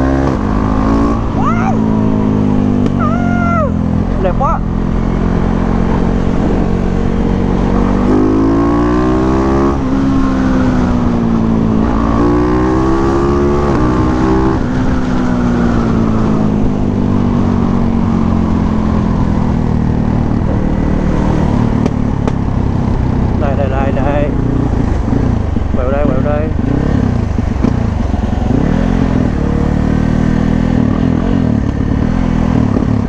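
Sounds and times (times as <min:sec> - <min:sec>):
motorcycle engine accelerating: 0:00.0 - 0:33.0
wind rushing: 0:00.3 - 0:30.9.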